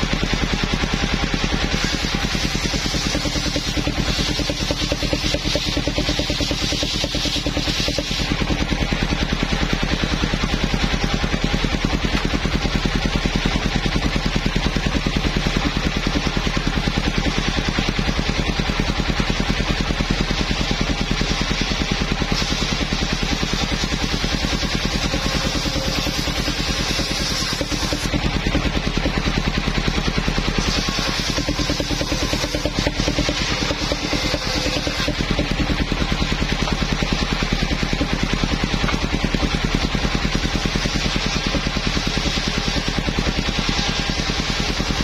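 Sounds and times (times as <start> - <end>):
sawmill engine running: 0.0 - 45.0.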